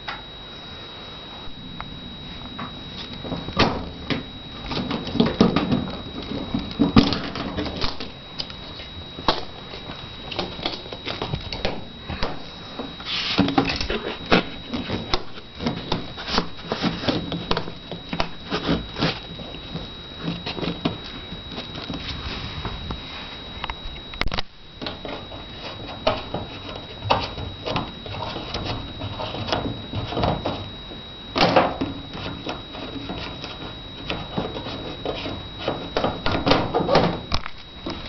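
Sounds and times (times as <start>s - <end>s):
faint high whine: 0.0s - 38.0s.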